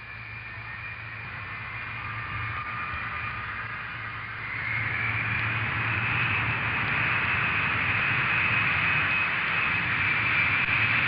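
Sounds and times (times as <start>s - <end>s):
aircraft engine running: 0.0s - 11.0s.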